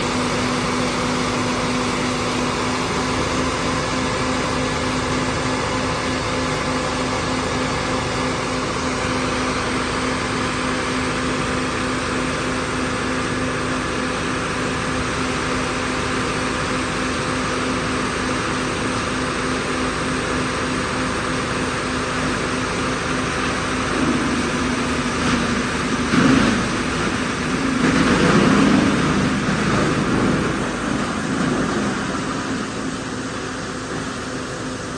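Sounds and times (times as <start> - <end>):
diesel wood chipper running: 0.0 - 34.9.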